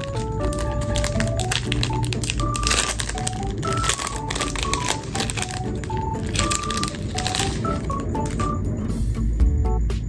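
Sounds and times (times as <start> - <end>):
plastic sleeve crinkling: 0.0 - 8.5
background music melody: 0.0 - 10.0.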